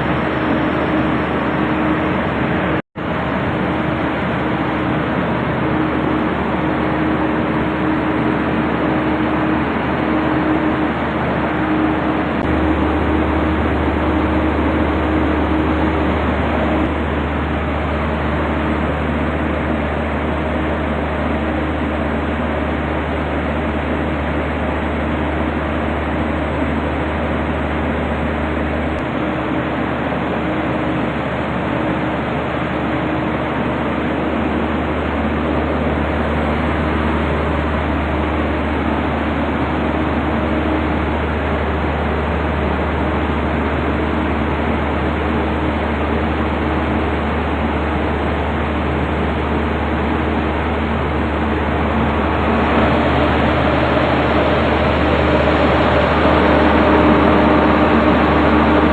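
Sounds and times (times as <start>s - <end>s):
diesel engine droning: 0.0s - 58.9s
low hum: 0.0s - 58.9s.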